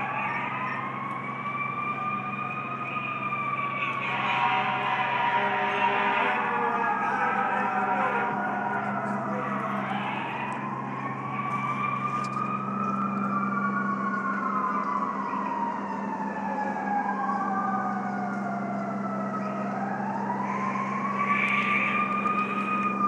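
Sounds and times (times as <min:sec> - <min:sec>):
fire engine siren wailing: 0:00.0 - 0:23.0.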